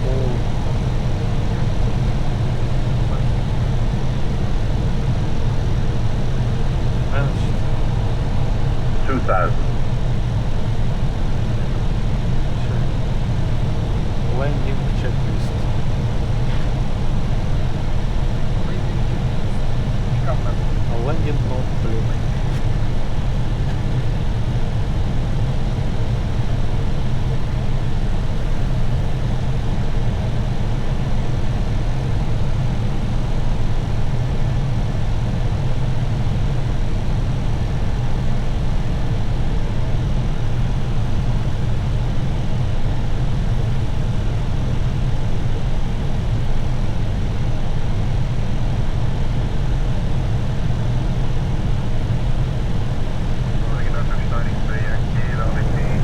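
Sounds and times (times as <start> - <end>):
airflow and jet engine rumble: 0.0 - 56.0.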